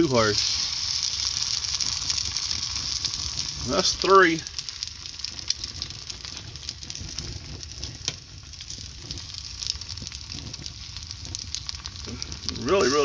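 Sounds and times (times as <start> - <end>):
eggs sizzling in a skillet: 0.0 - 13.0.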